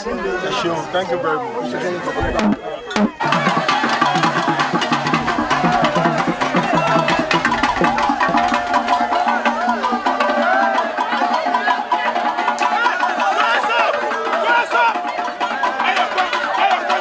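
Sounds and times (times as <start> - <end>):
voices singing: 0.0 - 17.0
music with fast percussion: 2.1 - 17.0.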